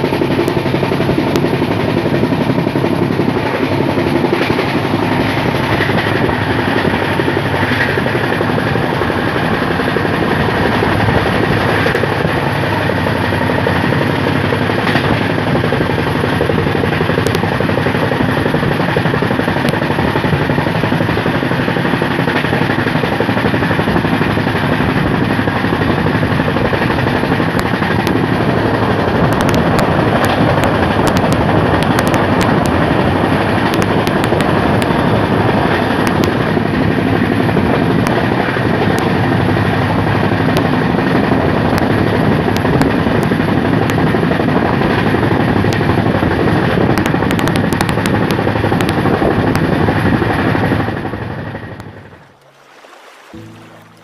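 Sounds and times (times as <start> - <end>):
train wheels rumbling on rail: 0.0 - 52.4.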